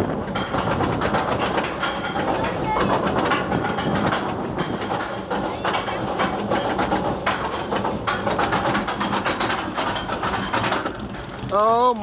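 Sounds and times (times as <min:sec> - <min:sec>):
lift chain clanking: 0:00.0 - 0:12.0.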